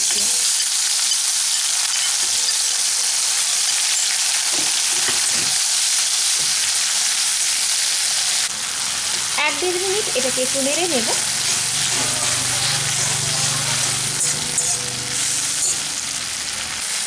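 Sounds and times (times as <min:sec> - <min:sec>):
tomato sizzling in hot oil: 0:00.0 - 0:17.0.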